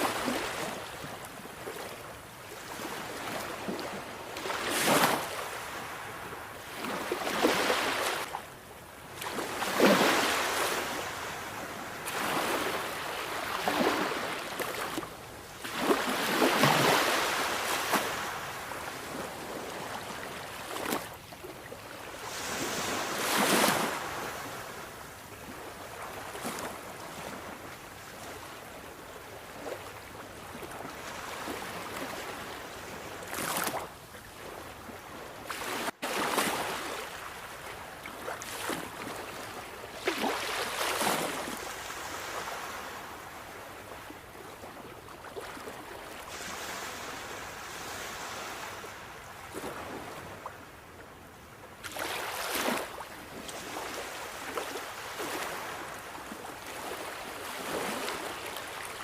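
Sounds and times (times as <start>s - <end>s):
sea waves breaking on shore: 0.0s - 8.4s, 9.0s - 59.0s.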